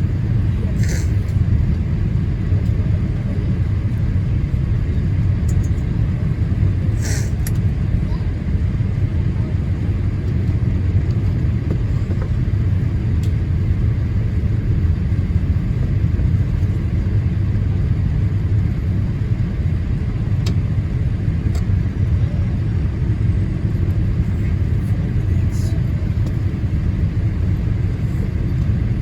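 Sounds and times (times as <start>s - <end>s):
airplane engines and airflow rumble: 0.0s - 29.0s.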